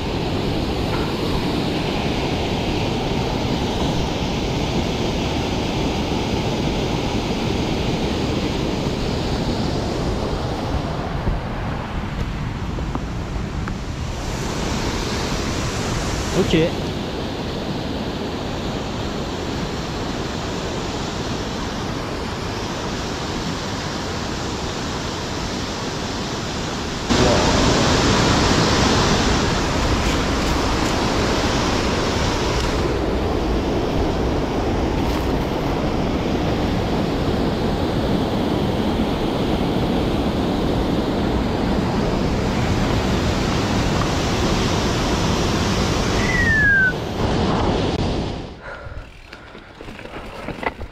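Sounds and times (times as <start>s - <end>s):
wind on microphone: 0.0s - 24.4s, 27.0s - 50.9s.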